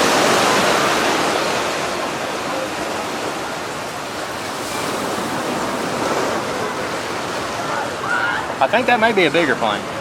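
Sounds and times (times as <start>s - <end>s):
surf breaking on beach: 0.0s - 10.0s.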